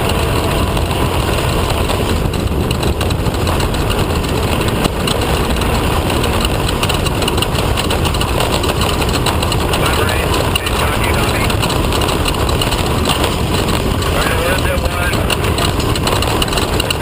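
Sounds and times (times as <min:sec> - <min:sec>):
clatter of knocks and rattles: 0:00.0 - 0:17.0
engine running steadily: 0:00.0 - 0:17.0.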